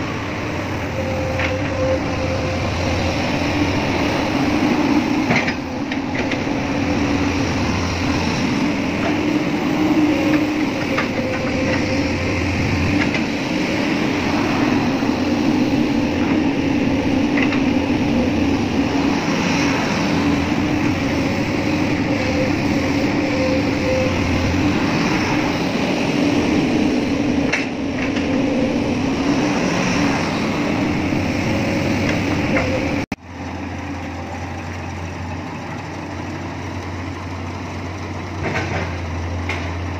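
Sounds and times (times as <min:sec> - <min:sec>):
excavator engine and hydraulics: 0:00.0 - 0:39.9.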